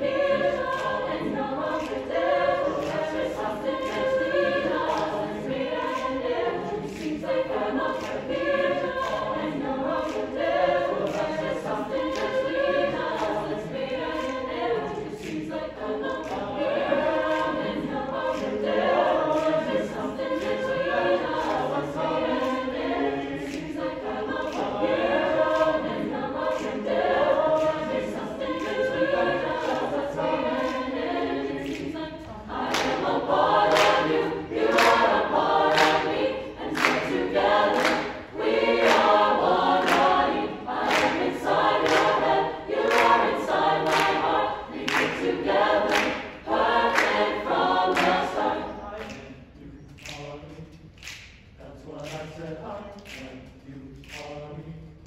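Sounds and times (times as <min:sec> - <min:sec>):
choir singing a cappella: 0:00.0 - 0:55.0
rhythmic clapping: 0:00.0 - 0:55.0.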